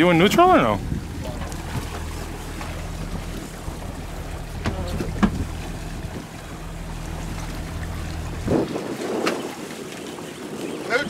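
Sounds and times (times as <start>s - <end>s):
outboard motors idling: 0.0s - 11.0s
water wash: 0.0s - 11.0s
wind: 0.0s - 11.0s.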